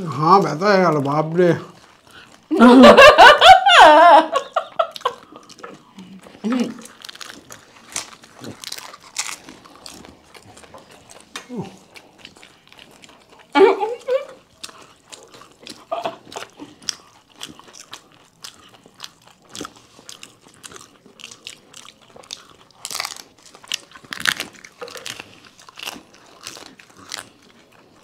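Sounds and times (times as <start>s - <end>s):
crunching and chewing crisp shells: 0.0s - 2.5s, 4.6s - 28.0s.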